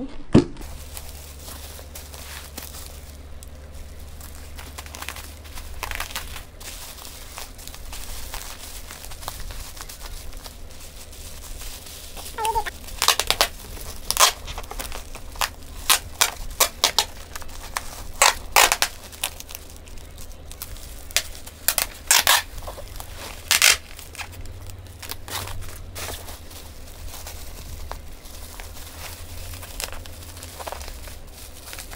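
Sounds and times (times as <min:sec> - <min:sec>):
bubble wrap crinkling: 0:00.6 - 0:31.9.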